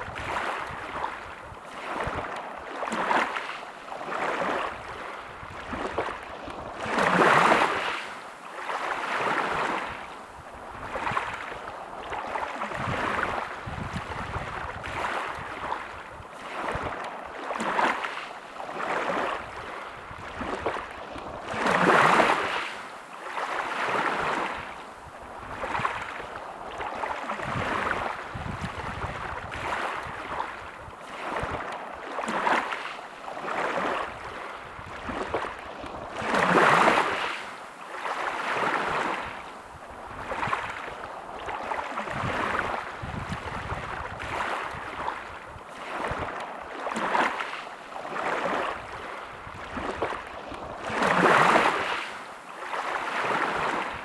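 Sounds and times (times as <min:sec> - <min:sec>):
small waves washing onto beach: 0:00.0 - 0:54.0.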